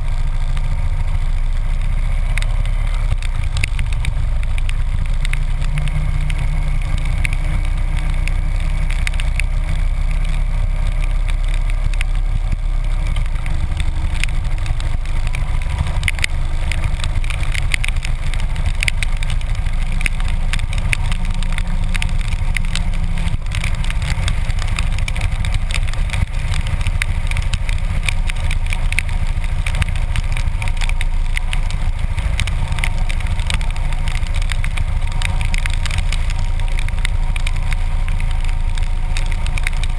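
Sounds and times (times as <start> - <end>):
motorcycle engine running: 0.0 - 39.9
raindrops striking camera case: 0.2 - 39.9.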